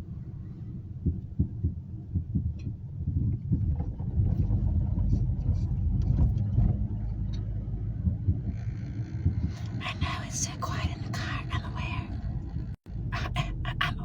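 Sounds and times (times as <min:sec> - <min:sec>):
car rumble inside cabin: 0:00.0 - 0:14.0.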